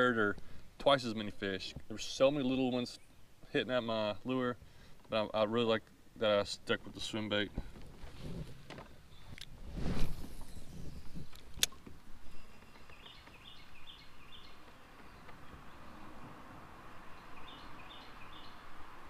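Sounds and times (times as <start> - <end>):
songbird singing: 0.0 - 7.9, 8.6 - 9.6, 10.2 - 19.0.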